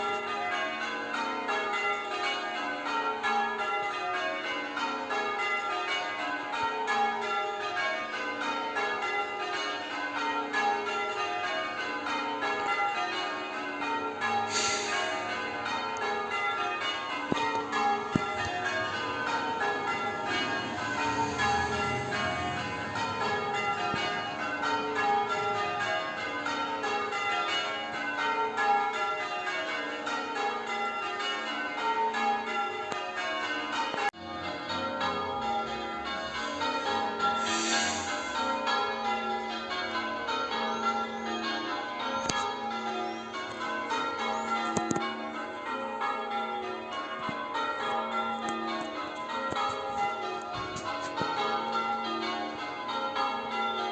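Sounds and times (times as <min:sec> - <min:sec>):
church bells ringing: 0:00.0 - 0:53.9.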